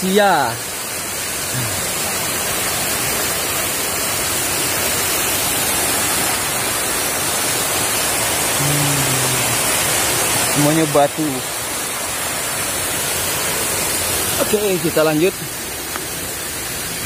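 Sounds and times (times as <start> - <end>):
mountain stream over cascades: 0.0 - 17.0.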